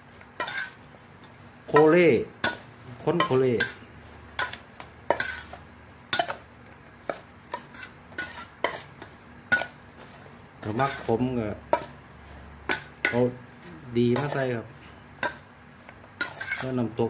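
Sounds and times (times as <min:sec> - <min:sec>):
spoon scraping a pan: 0:00.2 - 0:17.0.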